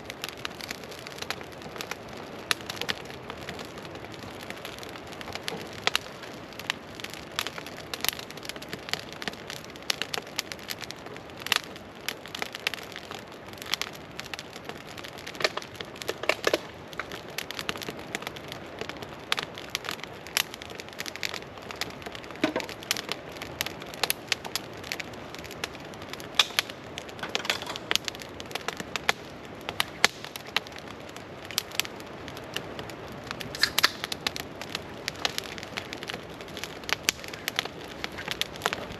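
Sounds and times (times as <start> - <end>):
campfire crackling: 0.0 - 38.9
fire pops: 0.0 - 38.9.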